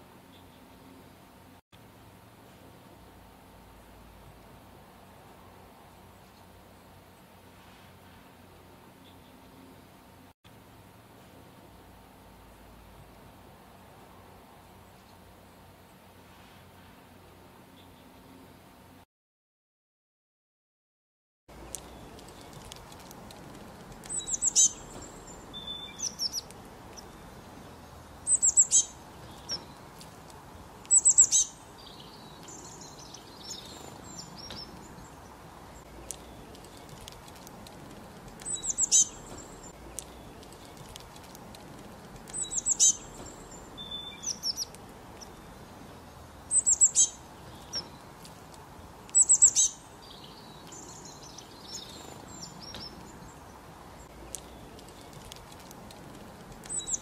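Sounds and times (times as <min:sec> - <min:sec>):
songbird chirping: 0:00.0 - 0:01.6, 0:02.5 - 0:10.3, 0:17.0 - 0:18.9, 0:21.5 - 0:57.0
faint background hiss: 0:00.0 - 0:19.1, 0:21.5 - 0:57.0.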